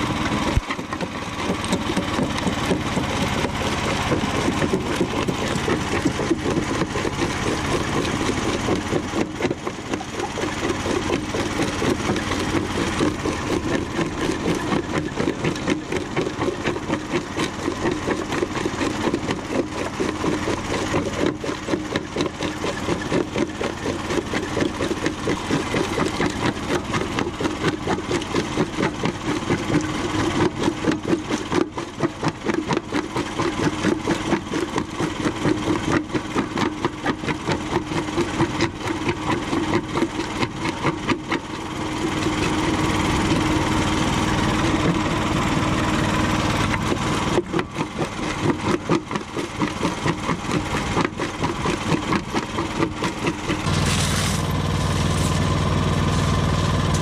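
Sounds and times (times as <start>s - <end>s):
jaw crusher crunching concrete: 0.0s - 57.0s.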